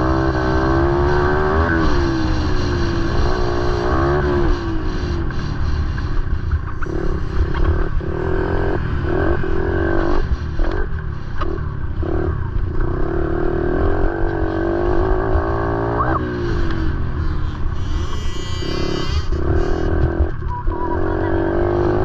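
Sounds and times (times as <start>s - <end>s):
motorcycle engine revving: 0.0s - 22.0s
motorcycle engines rumbling: 0.0s - 22.0s.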